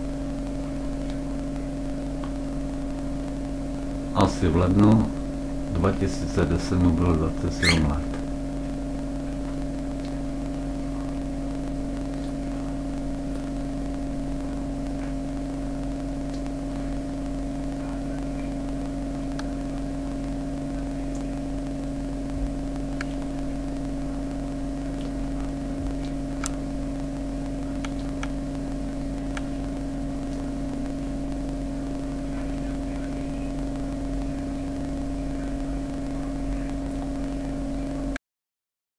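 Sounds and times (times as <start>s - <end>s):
steady electrical hum: 0.0s - 38.2s.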